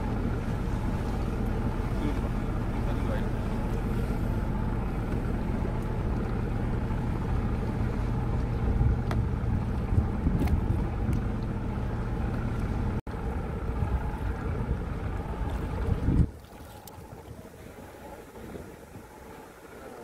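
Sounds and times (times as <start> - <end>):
low steady rumble: 0.0 - 20.0
water against boat hull: 0.0 - 20.0
wind on microphone: 0.0 - 20.0.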